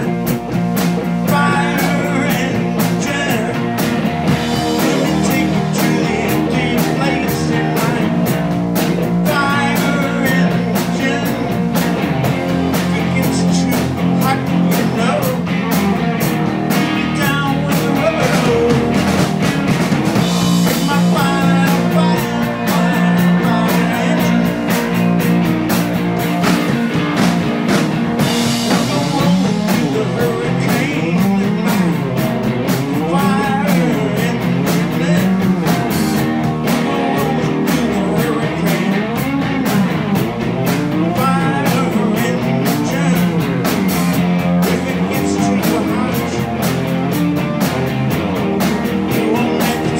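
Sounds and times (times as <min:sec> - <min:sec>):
rock band playing loud: 0:00.0 - 0:49.9.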